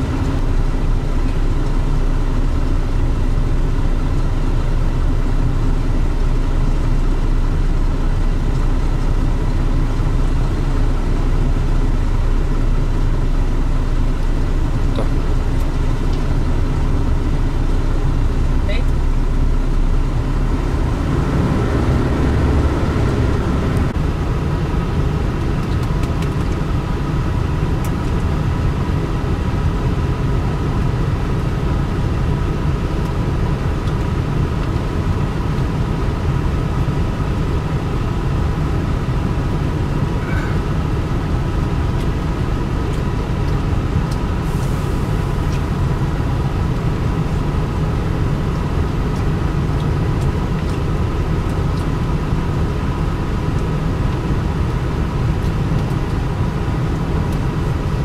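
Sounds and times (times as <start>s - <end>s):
diesel engines rumbling: 0.0s - 58.0s
faint engine whine: 0.0s - 58.0s.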